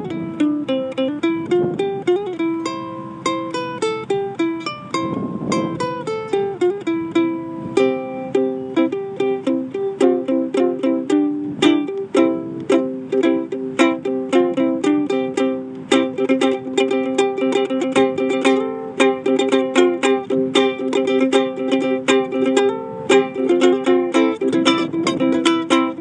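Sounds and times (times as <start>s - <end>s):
plucked string instrument: 0.0s - 26.0s.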